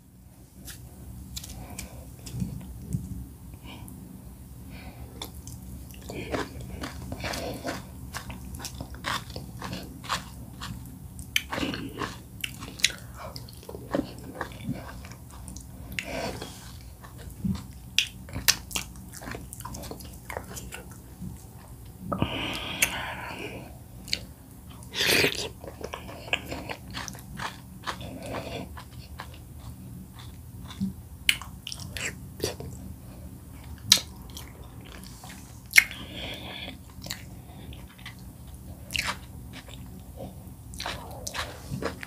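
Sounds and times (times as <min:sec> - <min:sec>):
steady low hum: 0:00.0 - 0:42.0
wet chewing and mouth clicks: 0:05.2 - 0:22.0, 0:24.0 - 0:32.8, 0:33.6 - 0:42.0.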